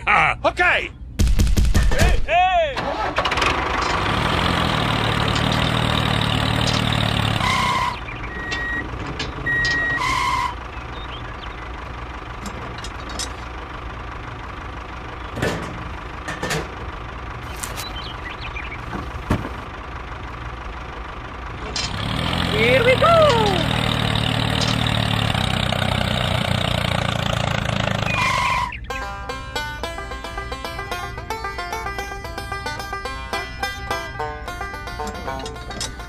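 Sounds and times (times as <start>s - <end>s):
vehicle engine running: 2.9s - 36.0s.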